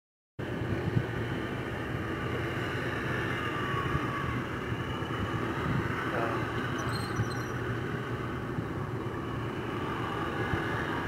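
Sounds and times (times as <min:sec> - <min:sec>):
boat diesel engine droning: 0:00.4 - 0:11.0.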